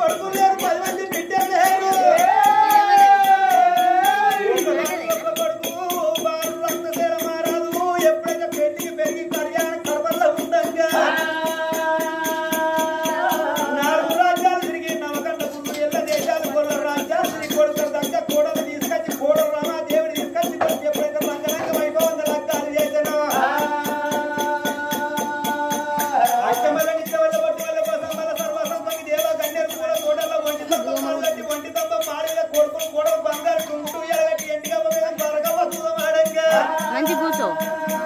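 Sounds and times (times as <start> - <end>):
fast rattling rhythm: 0.0 - 38.0.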